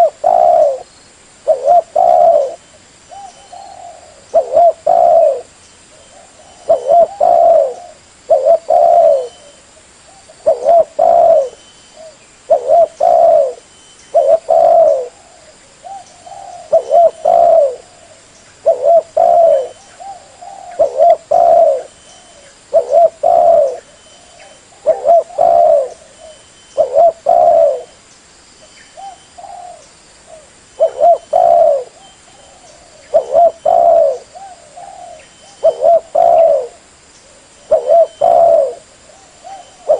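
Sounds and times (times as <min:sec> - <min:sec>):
dove cooing: 0:00.0 - 0:28.0, 0:29.0 - 0:39.9.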